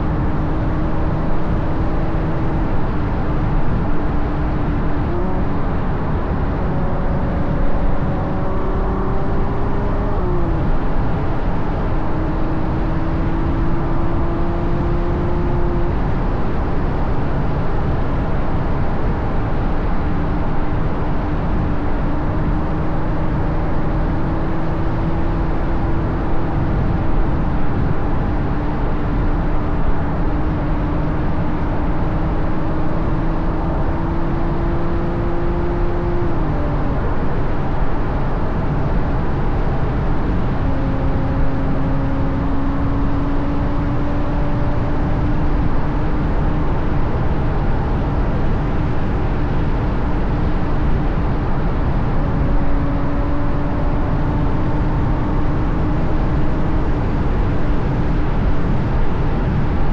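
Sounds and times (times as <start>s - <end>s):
car engine driving: 0.0s - 59.9s
wind noise: 0.0s - 59.9s.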